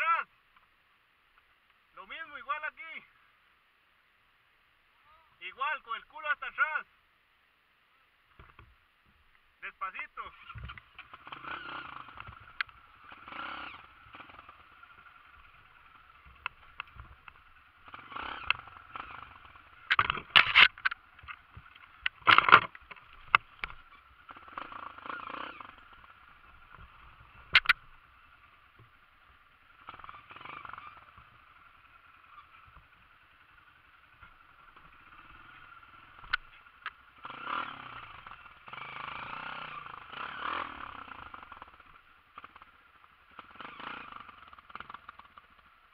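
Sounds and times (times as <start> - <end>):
dirt bike engine: 8.3 - 45.9.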